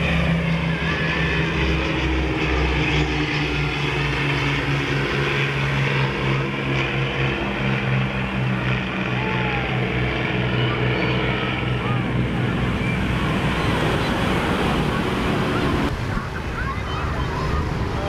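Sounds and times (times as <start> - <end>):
propeller aircraft engine running: 0.0 - 18.0.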